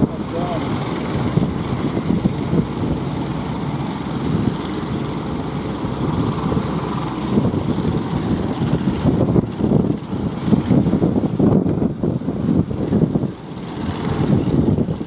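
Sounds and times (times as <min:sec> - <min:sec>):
boat engine running: 0:00.0 - 0:15.0
breaking waves: 0:00.0 - 0:15.0
wind on microphone: 0:00.0 - 0:15.0.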